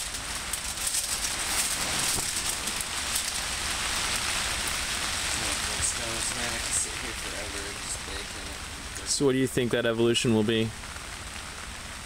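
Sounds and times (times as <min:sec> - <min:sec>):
low steady hum: 0:00.0 - 0:12.0
rain pattering on a tarp: 0:00.0 - 0:12.0.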